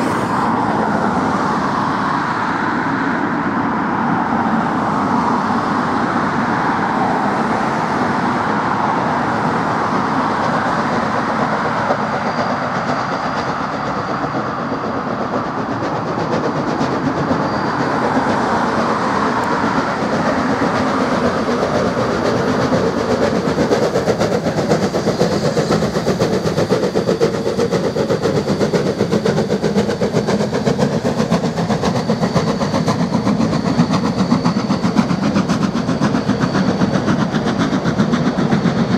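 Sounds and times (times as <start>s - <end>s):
cars passing on road: 0.0s - 32.3s
steam locomotive exhaust beat: 0.0s - 38.9s.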